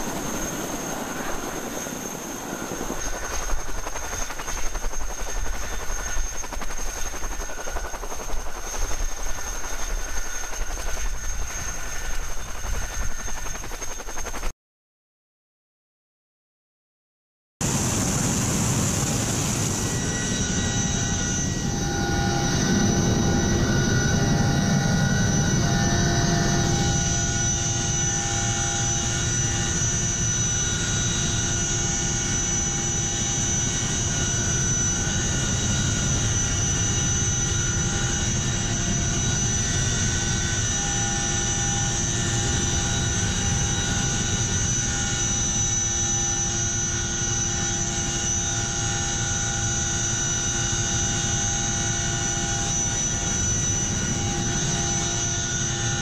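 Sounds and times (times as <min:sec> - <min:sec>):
helicopter engine whine and rumble: 0:00.0 - 0:14.5, 0:17.6 - 0:56.0.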